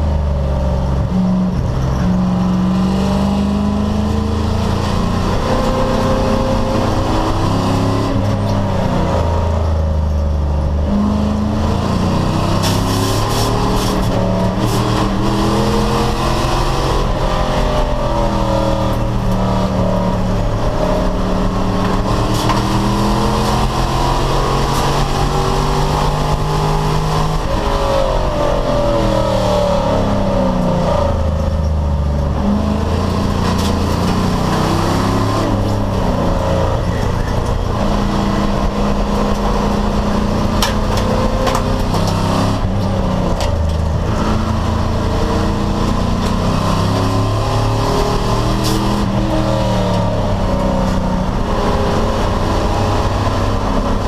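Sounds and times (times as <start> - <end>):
race car engine under hard throttle: 0.0 - 54.0.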